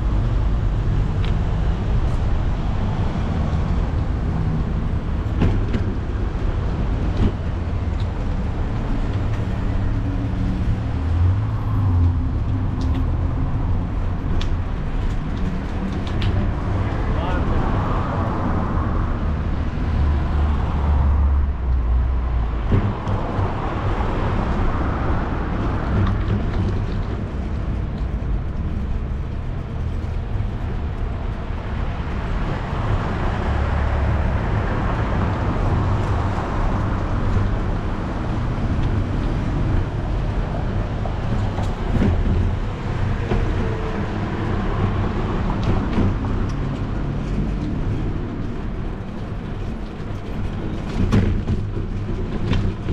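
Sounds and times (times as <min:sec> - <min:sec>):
bicycle rolling rumble: 0:00.0 - 0:52.9.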